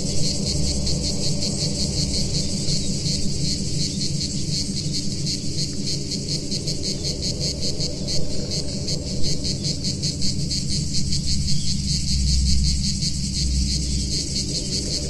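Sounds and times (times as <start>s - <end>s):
cicada buzzing: 0.0s - 15.0s
low synthesizer drone: 0.0s - 15.0s.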